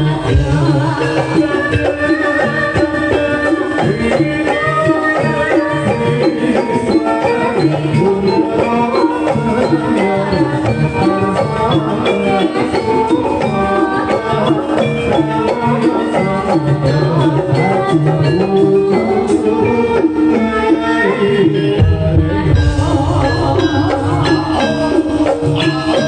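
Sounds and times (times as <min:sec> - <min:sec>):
gamelan-style ensemble with drums: 0:00.0 - 0:26.0.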